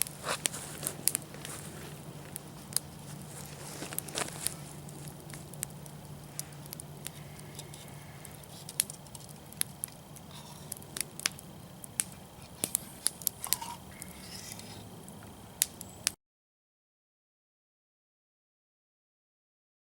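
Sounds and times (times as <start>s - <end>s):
faint low hum: 0.0s - 16.1s
wood fire crackling: 0.0s - 16.2s.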